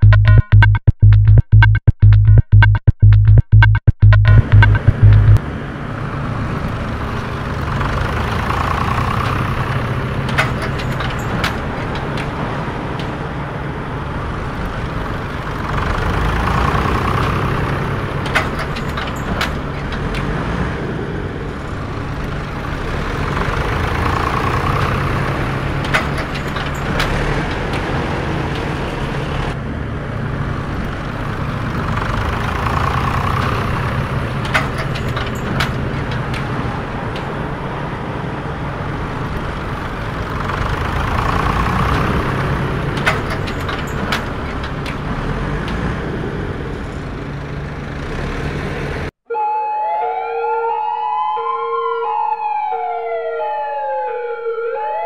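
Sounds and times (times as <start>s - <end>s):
truck engine idling: 4.2s - 49.1s.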